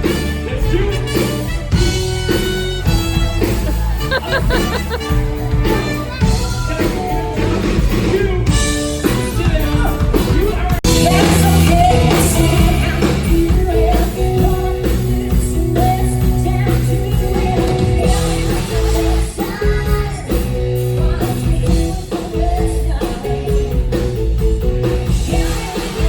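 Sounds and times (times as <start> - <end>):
loud rock music with singer: 0.0 - 26.0.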